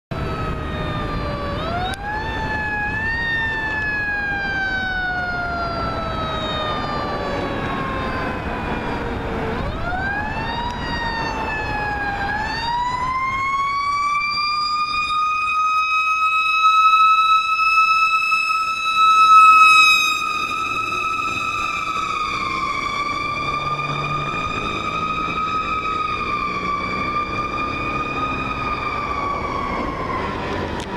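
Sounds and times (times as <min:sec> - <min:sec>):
mechanical siren winding up and down: 0:00.1 - 0:30.9.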